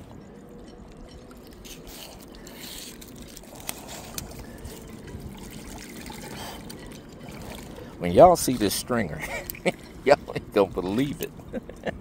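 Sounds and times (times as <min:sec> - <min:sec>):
water lapping against rocks: 0:00.6 - 0:11.6.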